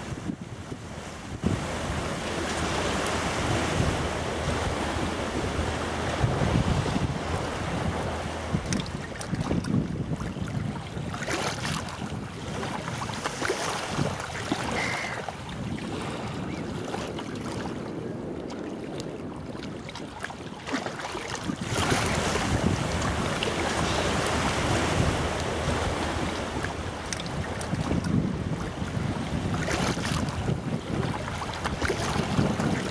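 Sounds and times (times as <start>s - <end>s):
water lapping at shore: 0.0s - 32.9s
wind buffeting microphone: 0.0s - 32.9s.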